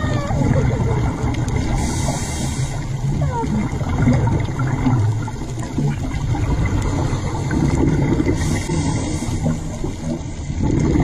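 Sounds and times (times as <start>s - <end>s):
underwater rumble and bubbling: 0.0s - 11.0s
hiss of exhaled bubbles: 0.4s - 11.0s.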